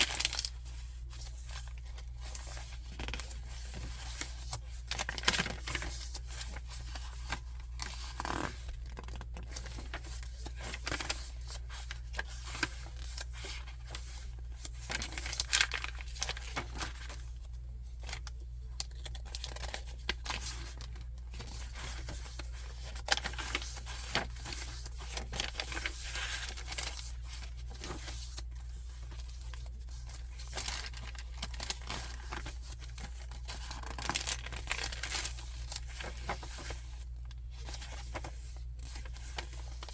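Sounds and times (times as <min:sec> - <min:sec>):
paper pages rustling: 0:00.0 - 0:39.9.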